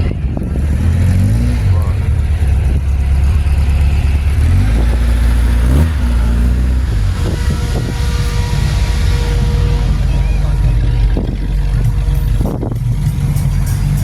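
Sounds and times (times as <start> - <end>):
car engine rumbling and revving: 0.0 - 14.0.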